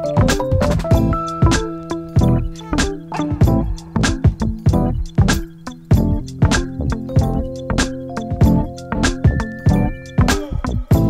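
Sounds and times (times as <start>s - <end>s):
plucked or keyboard melody: 0.0s - 11.0s
drum hits: 0.2s - 11.0s.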